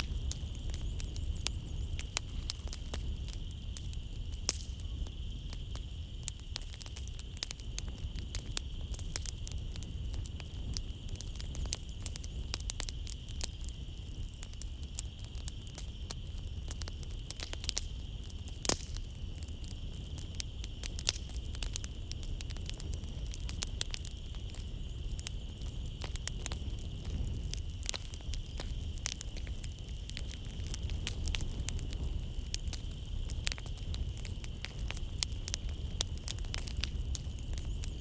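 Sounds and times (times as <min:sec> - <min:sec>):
night insects humming: 0:00.0 - 0:38.0
wood fire crackling: 0:00.0 - 0:38.0.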